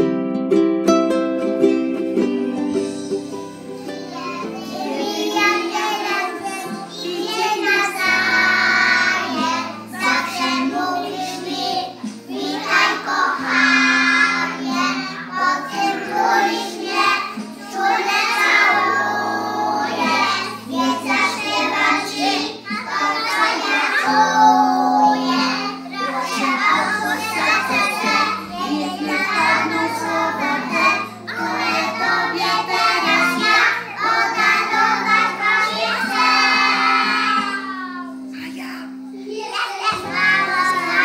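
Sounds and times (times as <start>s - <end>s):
children singing: 3.0s - 38.3s, 39.2s - 41.0s.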